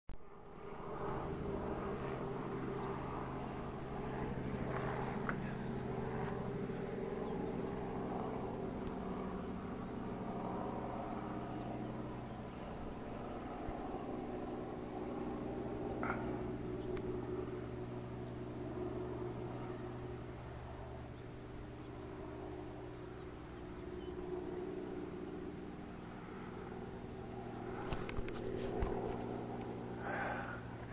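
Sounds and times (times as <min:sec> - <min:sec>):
helicopter flying overhead: 0:00.2 - 0:30.9.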